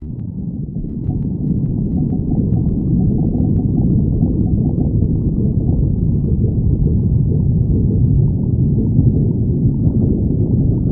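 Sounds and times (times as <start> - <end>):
stomach growling: 0.0 - 10.9.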